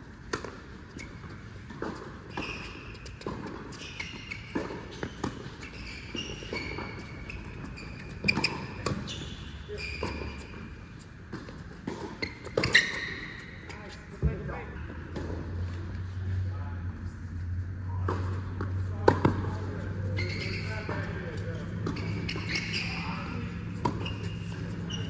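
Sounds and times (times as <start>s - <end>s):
tennis balls hit and bouncing: 0.0s - 16.4s, 17.4s - 25.0s
shoes squeaking on court: 0.2s - 16.5s, 17.3s - 25.0s.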